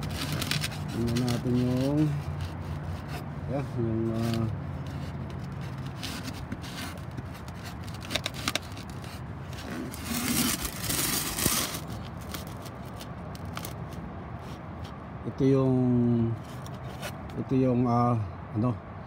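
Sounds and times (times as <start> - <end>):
scraping and handling noises: 0.0 - 15.0, 16.4 - 17.4.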